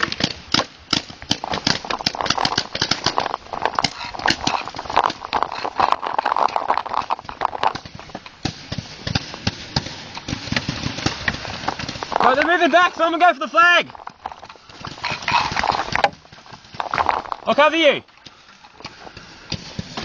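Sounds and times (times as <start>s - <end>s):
paintball markers firing: 0.0s - 20.0s
rushing noise: 1.4s - 18.1s.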